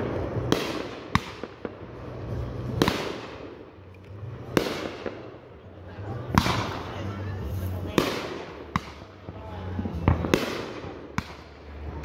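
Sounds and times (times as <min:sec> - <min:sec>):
firework bangs: 0:00.0 - 0:12.0
firework cracks: 0:00.0 - 0:12.0.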